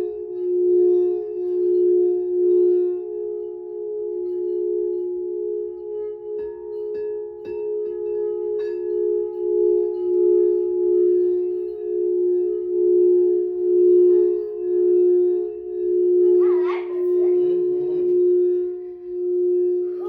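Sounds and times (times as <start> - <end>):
singing bowls ringing: 0.0 - 20.0.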